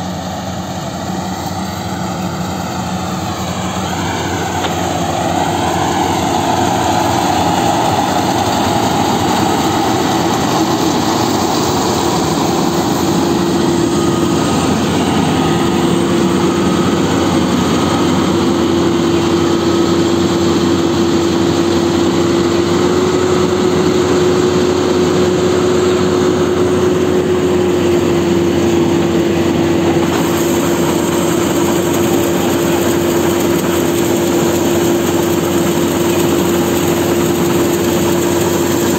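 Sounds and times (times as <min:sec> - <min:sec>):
combine harvester engine drone: 0:00.0 - 0:38.9
steady whine: 0:00.0 - 0:38.9.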